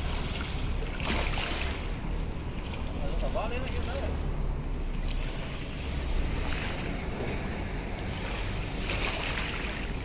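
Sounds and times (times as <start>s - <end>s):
water lapping at shore: 0.0s - 10.0s.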